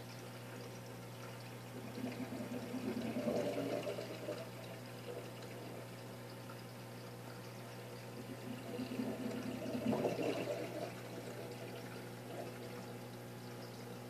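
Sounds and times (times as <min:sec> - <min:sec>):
low equipment hum: 0:00.0 - 0:14.0
running water: 0:00.0 - 0:14.0.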